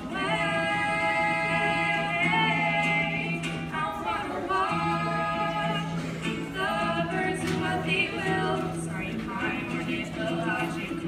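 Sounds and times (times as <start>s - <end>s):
ukulele: 0.0s - 11.0s
women singing: 0.0s - 11.0s.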